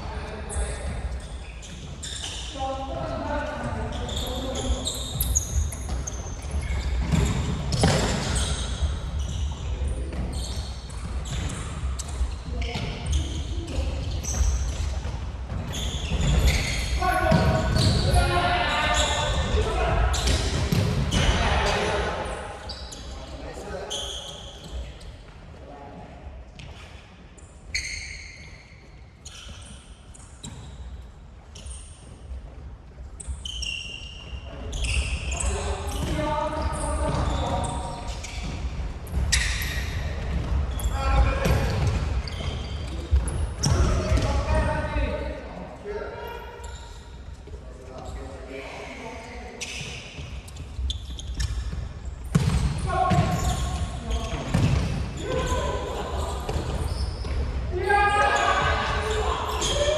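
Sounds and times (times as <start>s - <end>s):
sneakers squeaking on floor: 0.0s - 59.9s.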